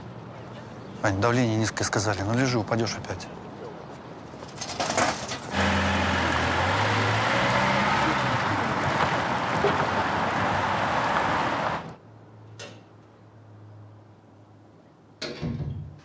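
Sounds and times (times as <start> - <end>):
city street traffic: 0.0 - 15.2.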